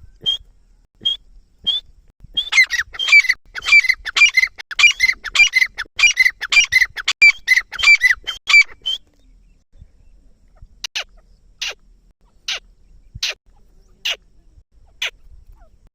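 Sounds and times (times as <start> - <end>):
francolin calling: 0.0 - 15.9.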